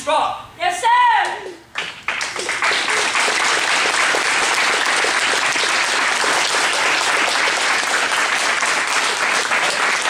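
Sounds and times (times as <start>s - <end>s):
people applauding: 1.7s - 10.0s.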